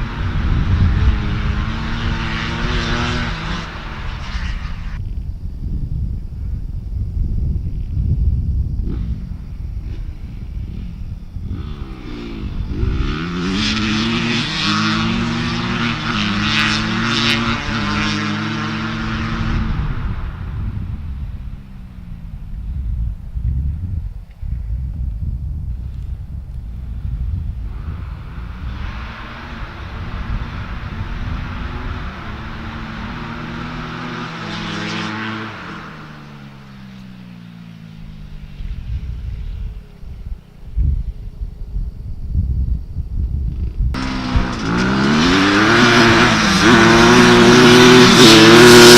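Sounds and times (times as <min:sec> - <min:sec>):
small off-road vehicle engine: 0:00.0 - 0:05.2, 0:07.9 - 0:24.8, 0:25.5 - 0:42.0, 0:43.2 - 0:48.9
wind on microphone: 0:00.0 - 0:36.5, 0:38.0 - 0:48.9.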